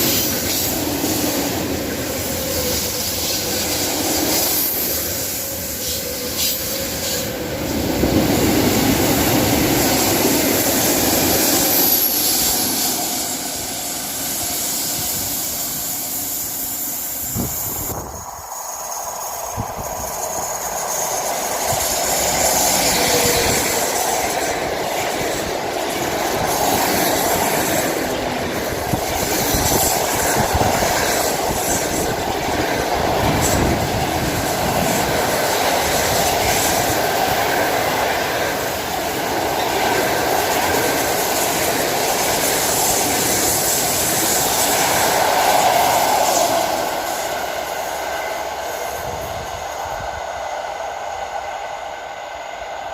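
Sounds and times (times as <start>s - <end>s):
train wheels rolling on track: 0.0s - 52.9s.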